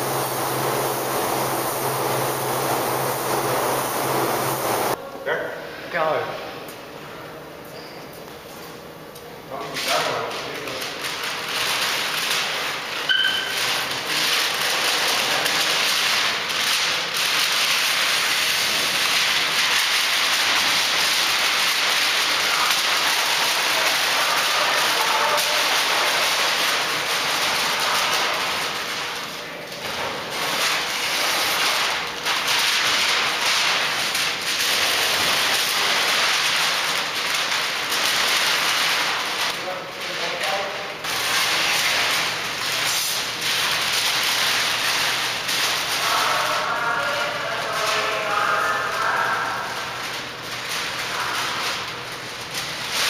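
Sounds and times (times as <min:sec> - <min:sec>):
masking paper tearing and rustling: 0:09.6 - 0:53.0.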